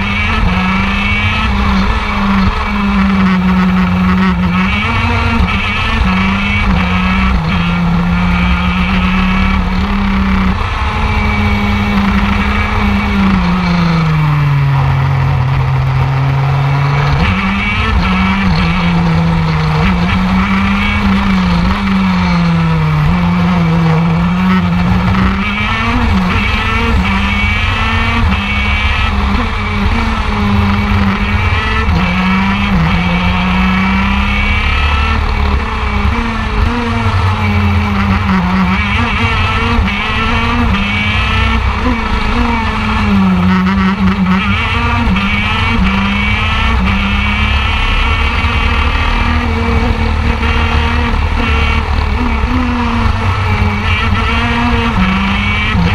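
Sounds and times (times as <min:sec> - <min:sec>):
kart engine running hard: 0:00.0 - 0:55.9.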